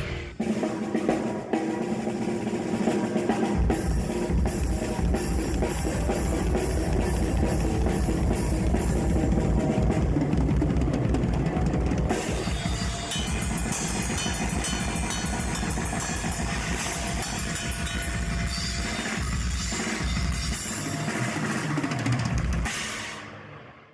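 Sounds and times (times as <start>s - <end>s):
metal band playing: 0.0s - 23.2s
drum kit with cymbals: 0.0s - 23.6s.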